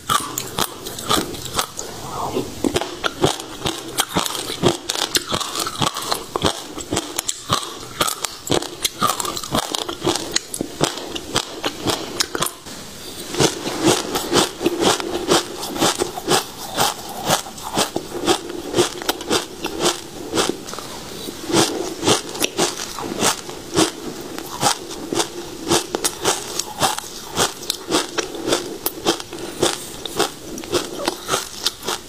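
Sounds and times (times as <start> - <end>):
crunching seeds while chewing: 0.0 - 32.0.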